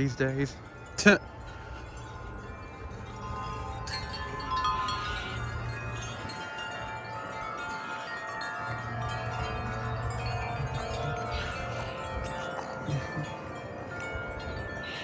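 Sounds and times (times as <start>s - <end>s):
metal wind chimes ringing: 0.0s - 15.0s.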